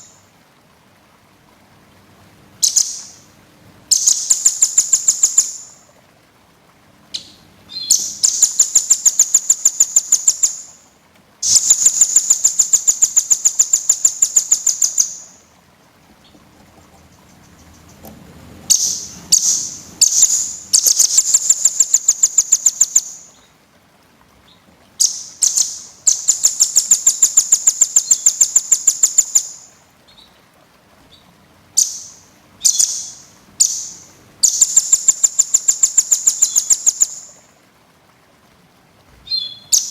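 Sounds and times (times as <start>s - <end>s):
songbird chirping rapidly: 2.6s - 3.3s, 3.9s - 5.8s, 7.1s - 23.6s, 24.4s - 30.4s, 31.1s - 37.4s, 39.2s - 39.9s.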